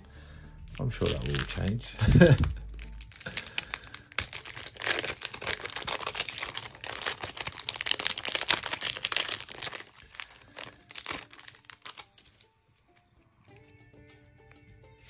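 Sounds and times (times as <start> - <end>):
foil wrapper crinkling: 0.7 - 13.1.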